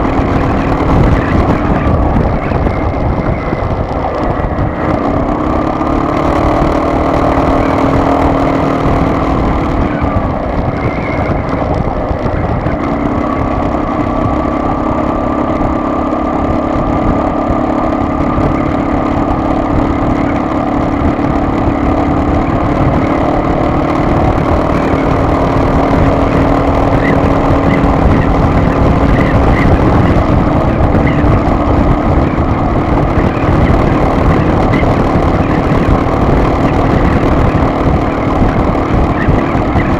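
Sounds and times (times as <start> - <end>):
car engine hum: 0.0 - 39.9
road and tyre noise: 0.0 - 39.9.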